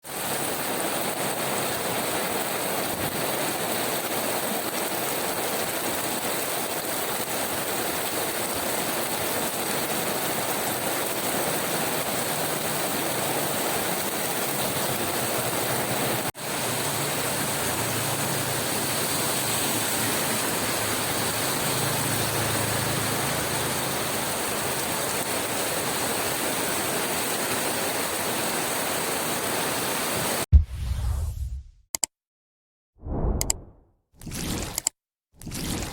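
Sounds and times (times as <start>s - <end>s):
rain on leaves and earth: 0.0s - 30.4s.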